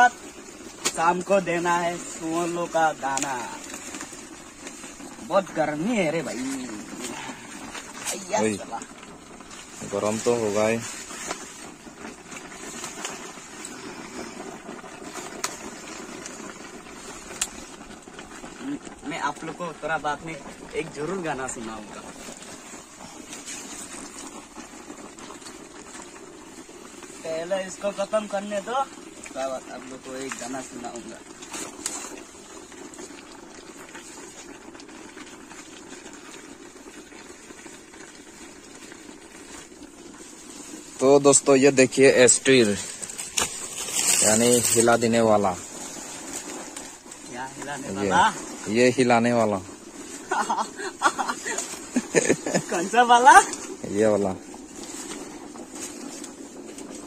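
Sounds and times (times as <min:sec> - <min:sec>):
pot boiling with bubbling: 0:00.0 - 0:57.0
sharp fire crackles: 0:00.0 - 0:57.0
wood fire burning: 0:00.0 - 0:57.0.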